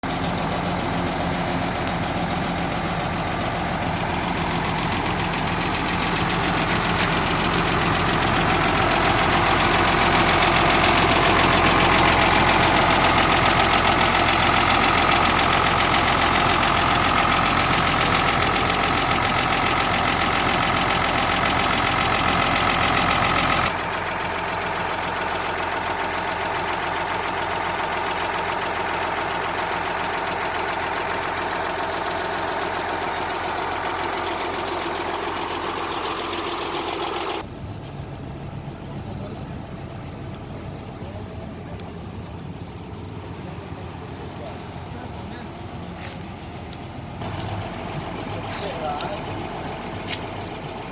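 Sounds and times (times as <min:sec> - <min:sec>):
diesel bus engine clattering: 0:00.0 - 0:50.9.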